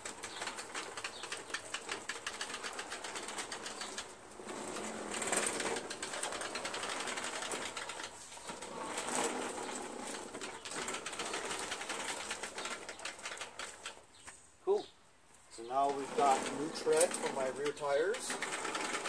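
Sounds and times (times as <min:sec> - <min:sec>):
mower wheels clicking and rattling: 0:00.0 - 0:14.4, 0:15.5 - 0:19.0.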